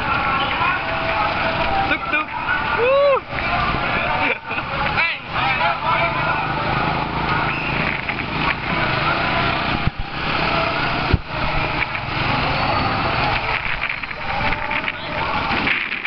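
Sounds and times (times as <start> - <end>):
small motorbike engines running: 0.0 - 16.0.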